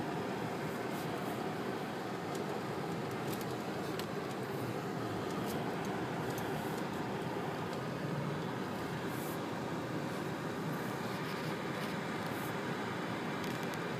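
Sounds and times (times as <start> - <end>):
car engine and road noise: 0.0 - 13.9.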